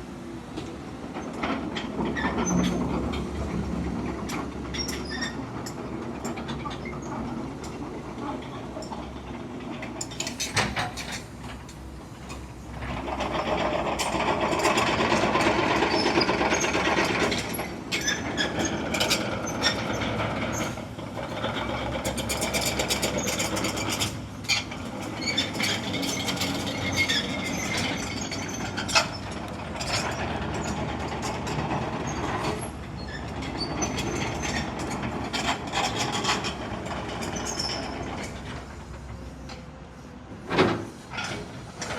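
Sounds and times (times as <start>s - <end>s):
excavator clanks and knocks: 0.5s - 39.8s, 40.4s - 41.9s.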